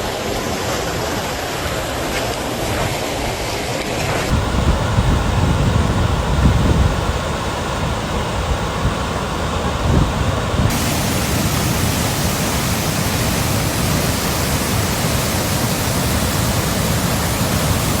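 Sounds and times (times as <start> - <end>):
rushing floodwater: 0.2 - 18.0.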